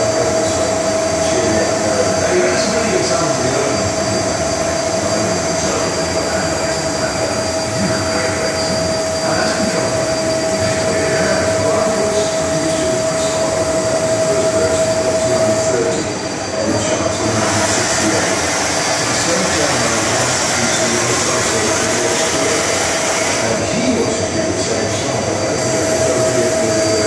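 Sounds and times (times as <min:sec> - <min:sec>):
lathe high whine: 0:00.0 - 0:27.0
lathe rumble and grind: 0:00.0 - 0:27.0.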